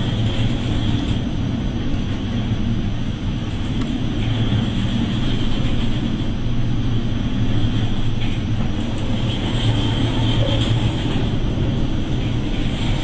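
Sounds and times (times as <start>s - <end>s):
steady low drone: 0.0s - 13.0s
storm waves: 0.0s - 13.0s
wind: 0.0s - 13.0s.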